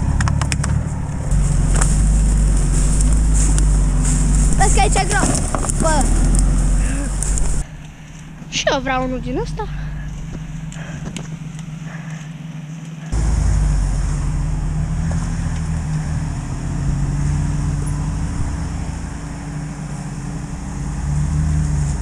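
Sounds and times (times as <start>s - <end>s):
suv engine at low revs: 0.0s - 22.0s.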